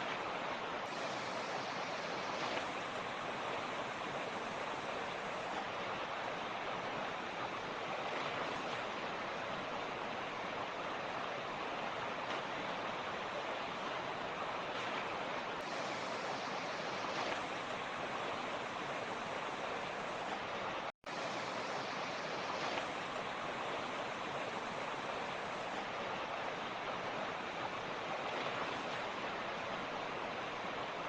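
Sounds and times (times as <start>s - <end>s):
stream rushing over rocks: 0.0s - 31.0s.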